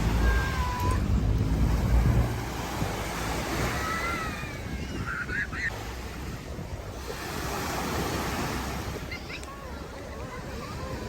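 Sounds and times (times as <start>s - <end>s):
sea surf washing on shore: 0.0s - 11.0s
wind buffeting the microphone: 0.0s - 11.0s.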